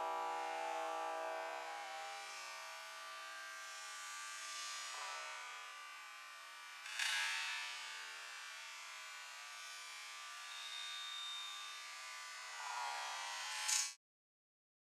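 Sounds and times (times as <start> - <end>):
buzzing drone: 0.0 - 13.8.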